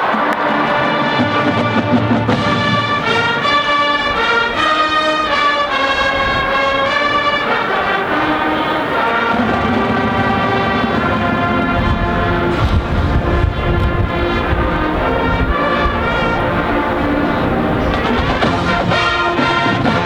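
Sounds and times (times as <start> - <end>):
marching band brass playing: 0.0 - 20.0.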